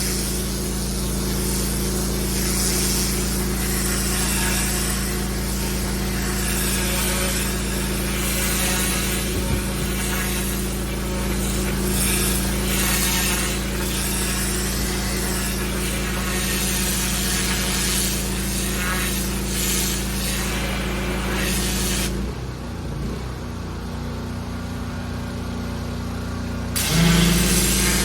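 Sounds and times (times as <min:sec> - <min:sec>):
water spray hissing on paving: 0:00.0 - 0:22.2, 0:26.8 - 0:28.0
pressure washer engine running: 0:00.0 - 0:28.0.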